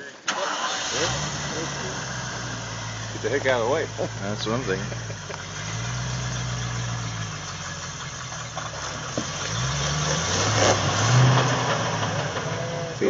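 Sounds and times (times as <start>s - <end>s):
off-road vehicle engine revving: 0.3s - 13.0s.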